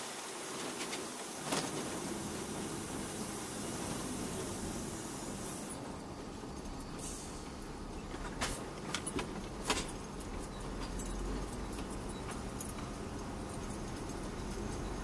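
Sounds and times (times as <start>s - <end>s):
diesel engine rumble: 0.6s - 15.0s.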